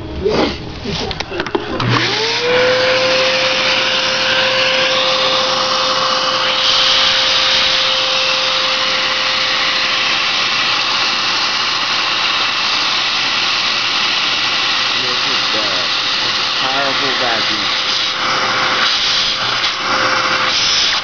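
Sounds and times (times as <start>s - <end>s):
vacuum whining with rushing air: 0.0s - 21.0s.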